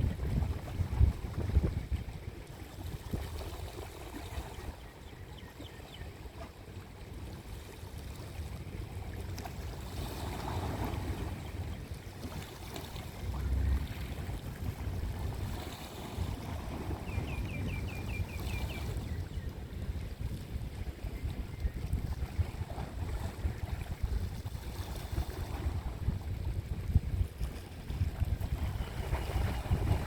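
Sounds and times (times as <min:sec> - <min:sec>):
wind rumbling on microphone: 0:00.0 - 0:06.0, 0:07.4 - 0:30.0.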